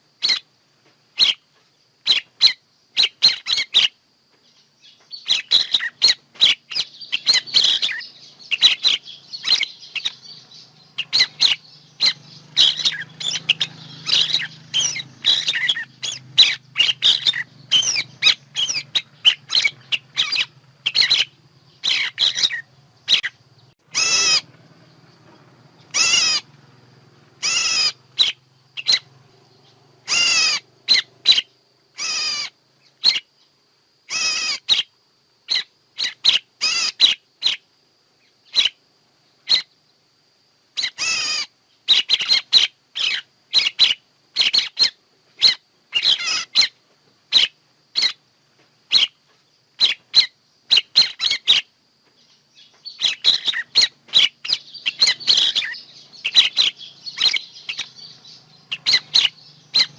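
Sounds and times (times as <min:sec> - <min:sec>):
high bird call notes: 0:00.2 - 0:00.5, 0:01.2 - 0:01.4, 0:04.8 - 0:26.6, 0:27.3 - 0:33.3, 0:34.1 - 0:34.9, 0:35.5 - 0:37.6, 0:40.8 - 0:48.2, 0:49.8 - 0:59.9.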